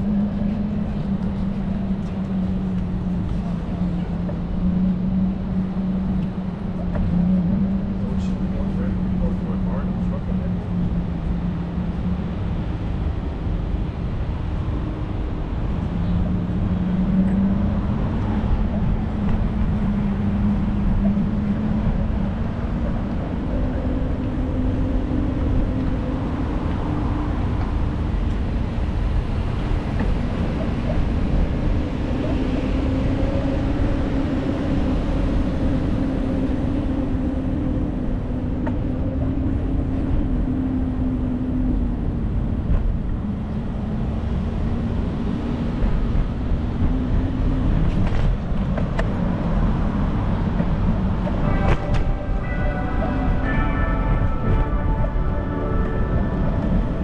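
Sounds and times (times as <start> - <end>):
wavering low hum: 0.0 - 57.0
wind and ride rumble on microphone: 0.0 - 57.0.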